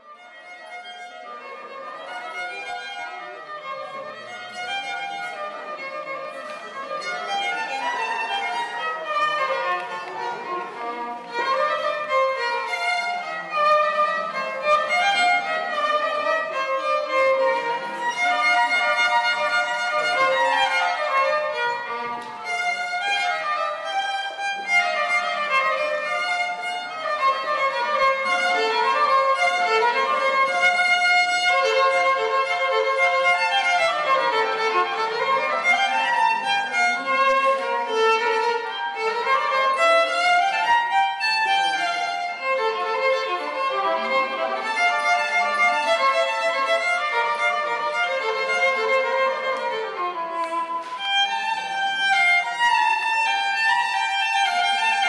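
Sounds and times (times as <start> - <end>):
violin instrumental music: 0.0 - 55.0.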